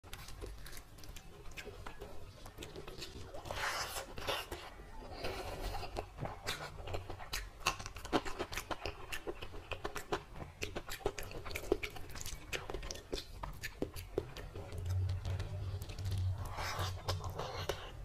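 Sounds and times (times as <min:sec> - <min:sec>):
crackles and soft squishes: 0:00.0 - 0:18.0.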